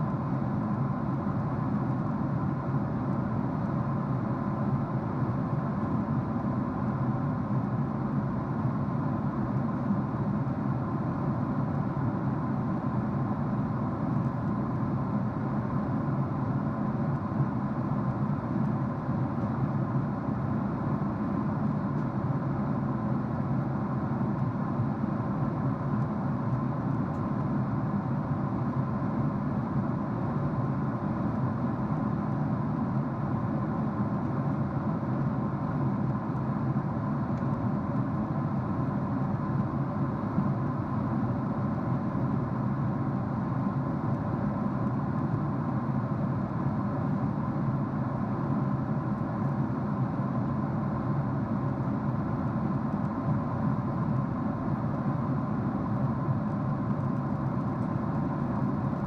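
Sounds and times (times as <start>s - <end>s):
faint steady hums: 0.0s - 59.0s
jet engine and airflow drone: 0.0s - 59.0s.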